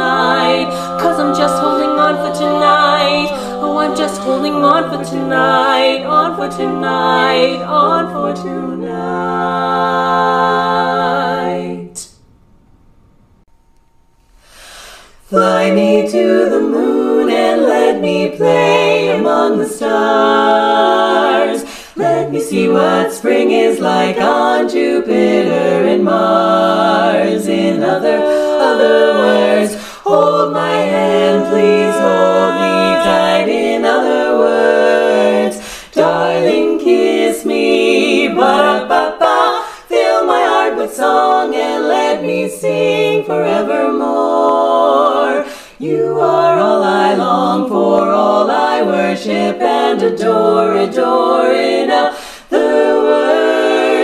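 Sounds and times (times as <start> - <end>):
women singing a cappella harmony: 0.0 - 12.2, 14.4 - 54.0.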